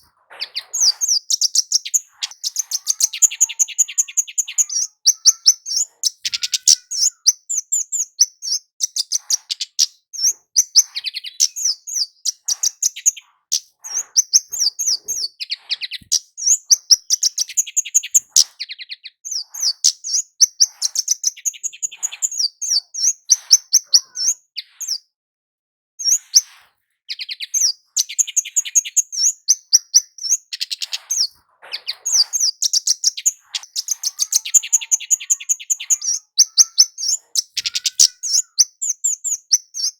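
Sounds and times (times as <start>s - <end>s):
bird chittering: 0.0s - 25.0s, 26.0s - 39.9s.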